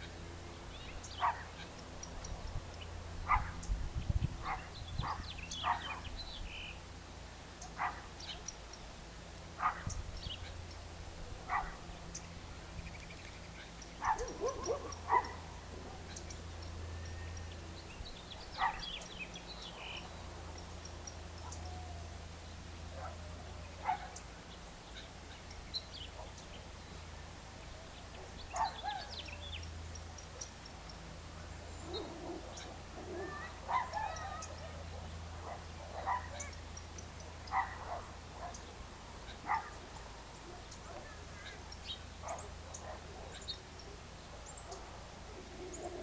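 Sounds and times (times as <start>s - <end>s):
birds calling and chirping: 0.0s - 46.0s
steady low hum: 0.0s - 46.0s.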